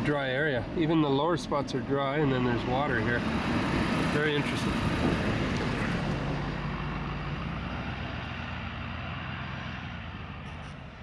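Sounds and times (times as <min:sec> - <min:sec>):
low engine hum: 0:00.0 - 0:11.0
road and tyre noise: 0:00.0 - 0:11.0.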